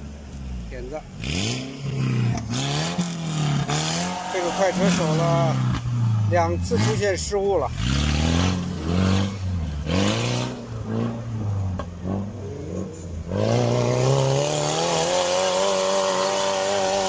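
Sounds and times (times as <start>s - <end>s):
buggy engine revving: 0.0s - 17.0s.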